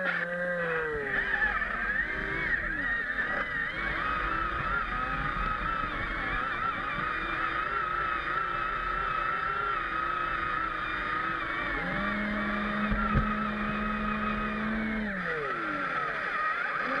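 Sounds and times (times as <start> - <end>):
electric motors whining: 0.0 - 17.0
lower motor tone: 0.0 - 17.0.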